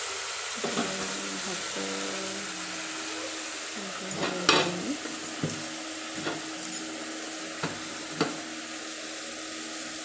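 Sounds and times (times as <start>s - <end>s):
food hissing in a pot: 0.0s - 10.0s.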